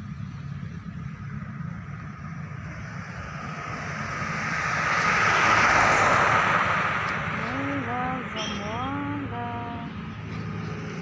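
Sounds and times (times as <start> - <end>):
road traffic rumble: 0.0 - 11.0
vehicle passing: 0.0 - 11.0.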